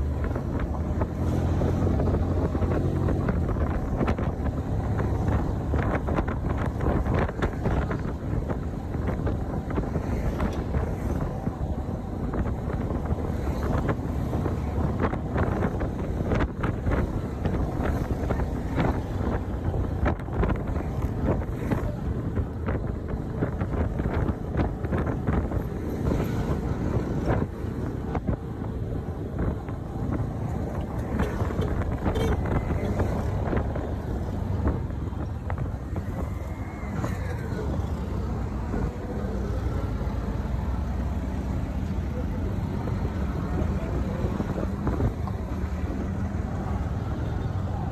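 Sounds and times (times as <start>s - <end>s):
engine and road rumble: 0.0s - 47.9s
wind buffeting microphone: 0.0s - 47.9s.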